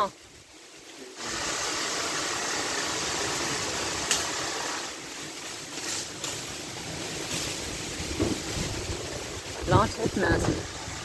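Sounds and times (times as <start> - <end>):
wind and rain in leaves: 0.0 - 11.0.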